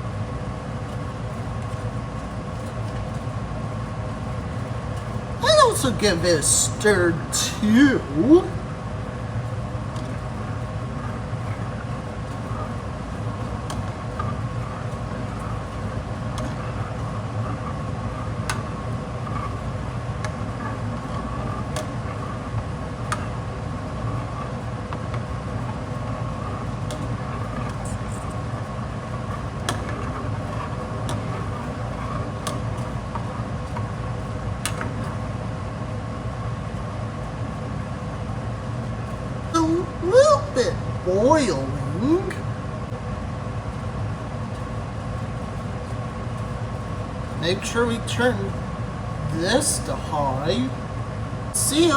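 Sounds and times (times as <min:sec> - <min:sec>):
steady mechanical hum: 0:00.0 - 0:51.9.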